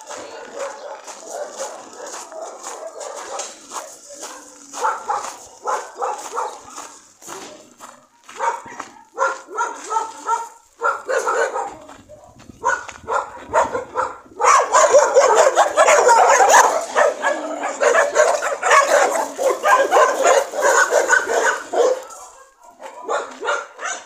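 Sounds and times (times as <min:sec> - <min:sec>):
many dogs barking: 0:00.0 - 0:24.0.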